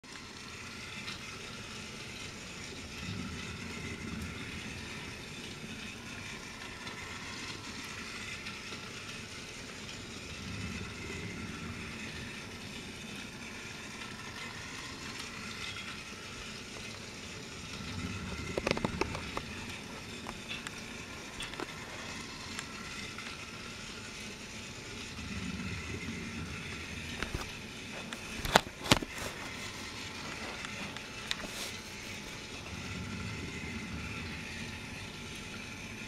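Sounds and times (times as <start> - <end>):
toy train motor whirring: 0.0 - 36.0.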